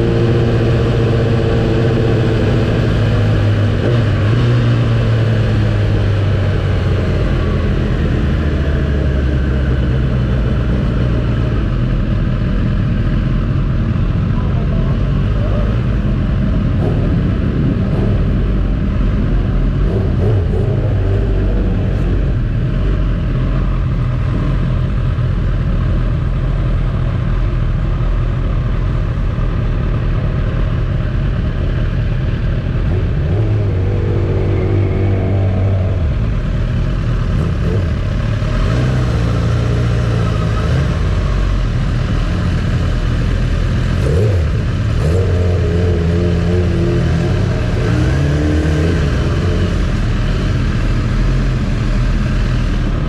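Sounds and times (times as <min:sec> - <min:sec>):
motorcycle engine rumbling: 0:00.0 - 0:53.0.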